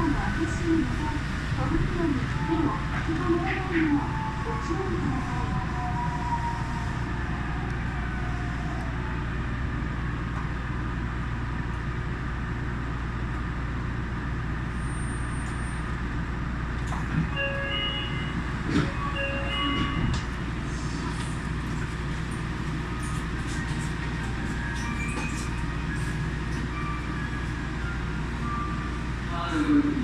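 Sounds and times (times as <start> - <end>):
monorail train rumbling: 0.0 - 30.0.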